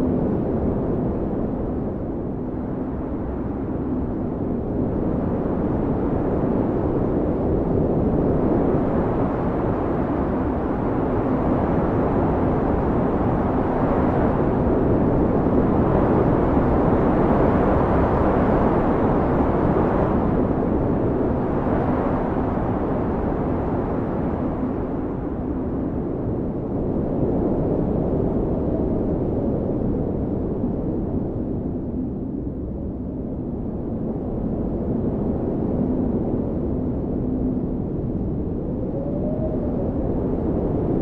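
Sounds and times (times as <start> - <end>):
blizzard wind blowing hard: 0.0 - 41.0.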